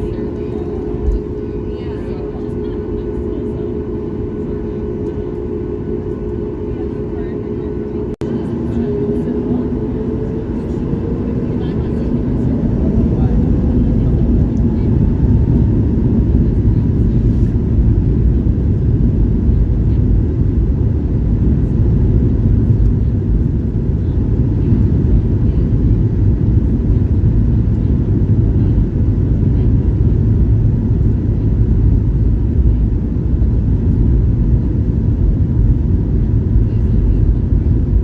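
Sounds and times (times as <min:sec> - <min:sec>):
airliner cabin engine rumble: 0:00.0 - 0:38.0
faint steady hum: 0:00.0 - 0:38.0.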